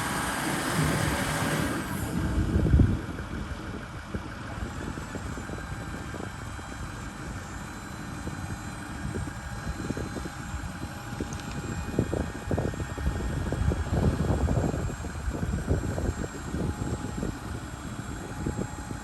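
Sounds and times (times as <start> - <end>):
truck engine idling: 0.0 - 19.0
wind rumbling on microphone: 0.0 - 19.0.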